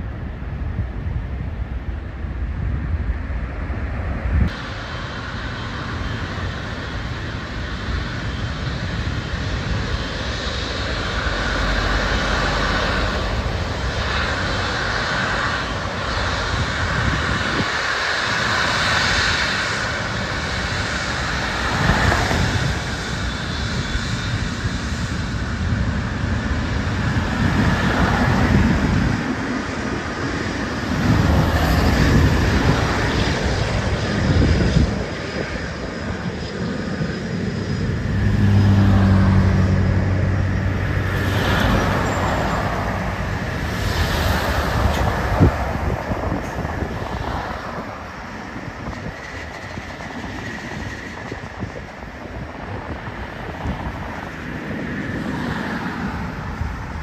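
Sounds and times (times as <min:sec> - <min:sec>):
jet engines rushing and whining: 0:00.0 - 0:57.0.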